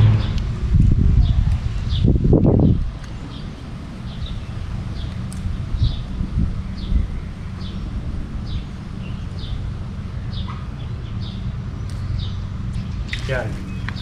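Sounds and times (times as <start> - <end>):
steady low rumble: 0.0 - 14.0
bird chirping: 1.2 - 14.0.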